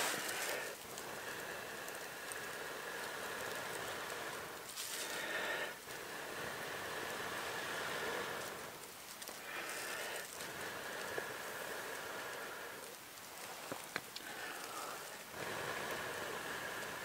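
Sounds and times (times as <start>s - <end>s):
breath blowing into tinder: 0.0s - 17.0s.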